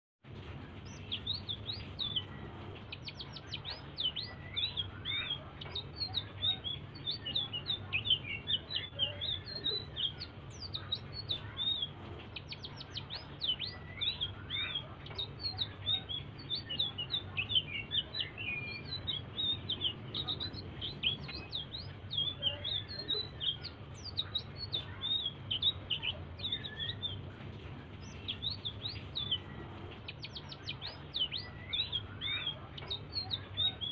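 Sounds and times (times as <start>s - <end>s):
steady low hum: 0.2s - 33.9s
songbird twittering: 0.8s - 27.3s, 28.0s - 33.9s.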